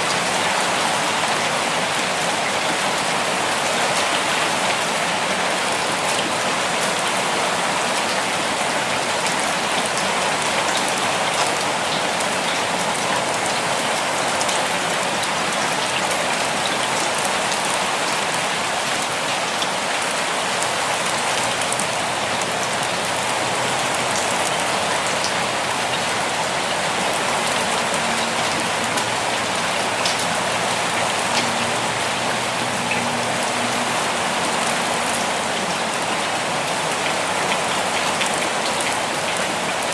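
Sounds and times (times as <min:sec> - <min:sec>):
gentle rainfall: 0:00.0 - 0:39.9.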